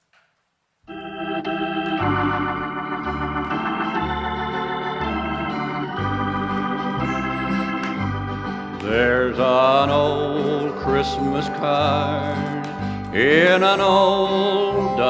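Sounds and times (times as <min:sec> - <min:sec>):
bass line: 0:00.9 - 0:15.0
organ chords: 0:00.9 - 0:15.0.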